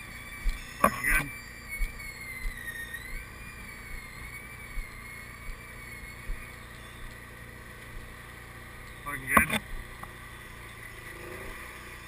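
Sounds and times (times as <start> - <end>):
faint wavering whine: 0.0 - 12.0.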